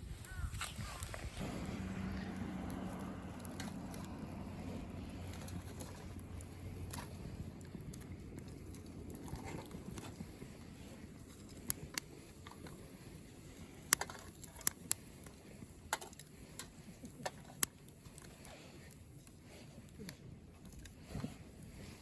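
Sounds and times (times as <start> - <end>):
twig fire crackling and popping: 0.2 - 19.0.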